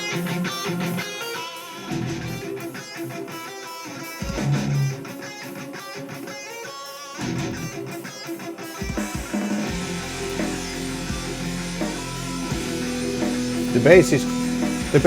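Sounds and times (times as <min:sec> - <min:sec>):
guitar band music with drums: 0:00.0 - 0:15.0.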